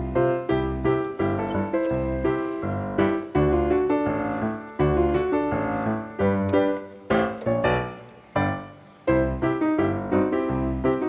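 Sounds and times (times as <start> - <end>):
bouncy piano music: 0.0 - 11.0.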